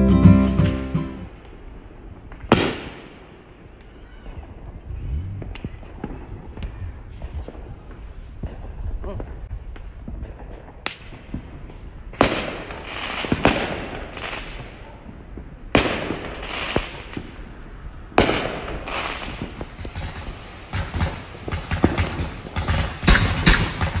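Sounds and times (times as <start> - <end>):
fireworks bangs and crackle: 0.5 - 24.0
small fireworks pops: 1.4 - 17.4, 18.2 - 24.0.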